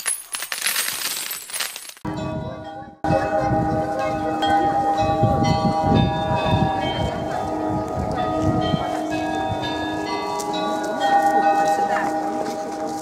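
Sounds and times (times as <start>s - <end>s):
clock bells chiming a melody: 2.0s - 13.0s.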